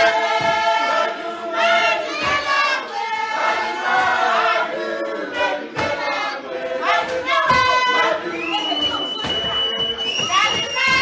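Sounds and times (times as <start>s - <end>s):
choir singing in harmony: 0.0s - 10.1s.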